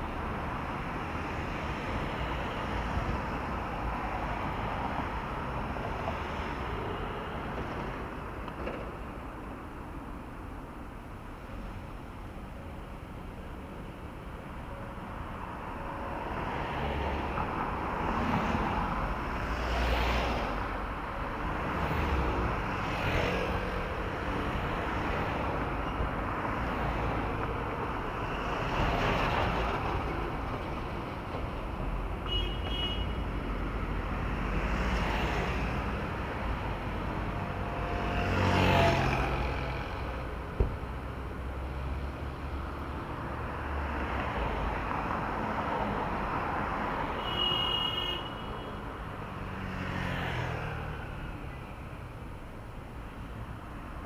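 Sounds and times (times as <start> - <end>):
road noise: 0.0 - 54.0
vehicles passing: 0.0 - 54.0.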